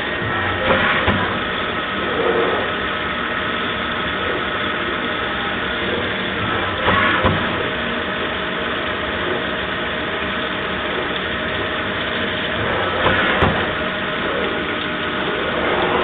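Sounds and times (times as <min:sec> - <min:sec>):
coolant spray hiss: 0:00.0 - 0:16.0
milling machine hum: 0:00.0 - 0:16.0.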